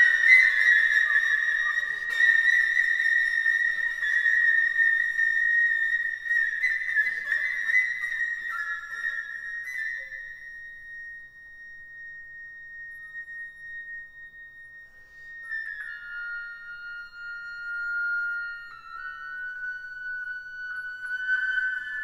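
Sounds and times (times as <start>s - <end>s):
flutes playing held notes: 0.0s - 22.0s.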